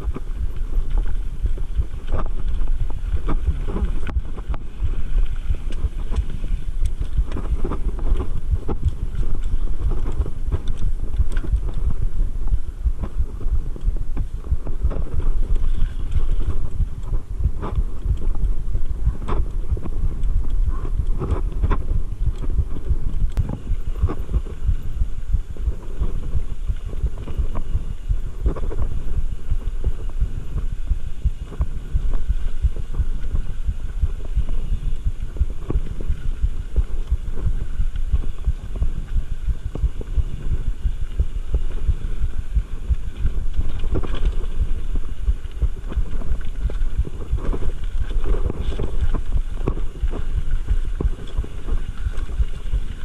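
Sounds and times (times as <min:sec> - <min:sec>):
bike rattling over bumps: 0:00.0 - 0:53.0
tyres rumbling on trail: 0:00.0 - 0:53.0.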